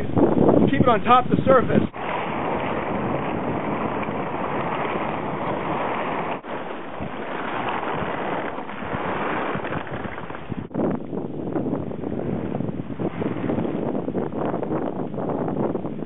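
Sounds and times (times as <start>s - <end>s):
wind buffeting microphone: 0.0s - 16.0s
ocean water washing and lapping: 1.9s - 10.8s, 11.5s - 16.0s.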